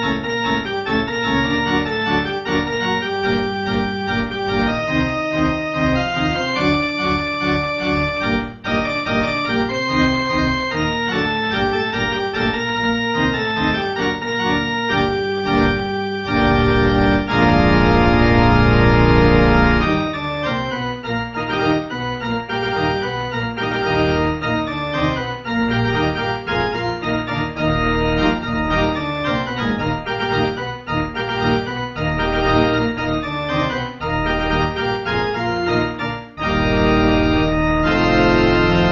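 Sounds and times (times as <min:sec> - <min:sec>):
organ playing: 0:00.0 - 0:38.9.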